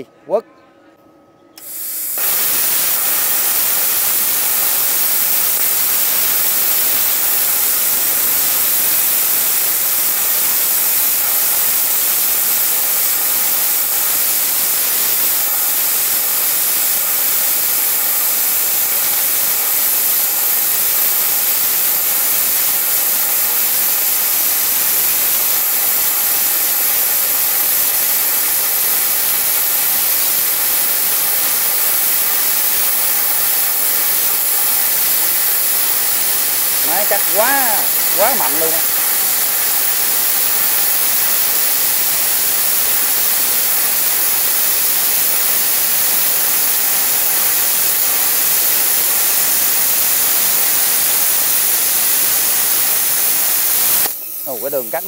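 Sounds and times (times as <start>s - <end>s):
plasma cutter hissing: 1.6s - 55.0s.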